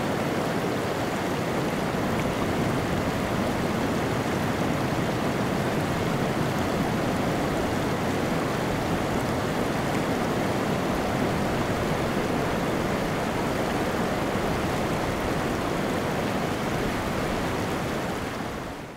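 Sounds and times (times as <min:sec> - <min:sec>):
ocean surf: 0:00.0 - 0:18.9.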